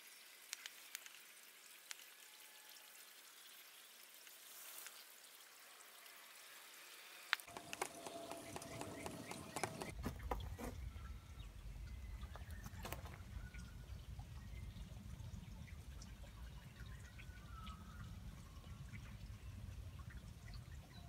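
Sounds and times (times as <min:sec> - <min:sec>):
drips and ticks: 0:00.0 - 0:21.0
liquid trickling: 0:00.0 - 0:21.0.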